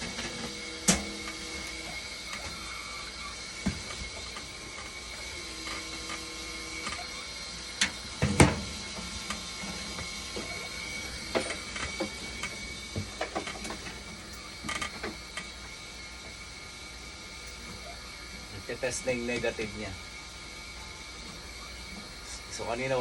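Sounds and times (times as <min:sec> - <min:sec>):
faint high whine: 0:00.0 - 0:23.0
steady machine hum: 0:00.0 - 0:23.0.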